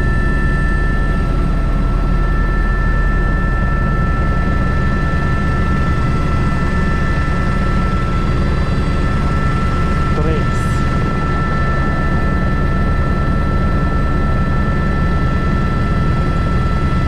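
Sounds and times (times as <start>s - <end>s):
helicopter rotor beat: 0.0s - 17.0s
turbine and gearbox whine: 0.0s - 17.0s.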